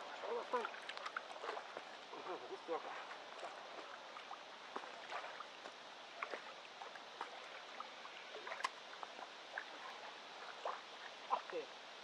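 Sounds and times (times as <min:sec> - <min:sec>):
river water washing: 0:00.0 - 0:12.0.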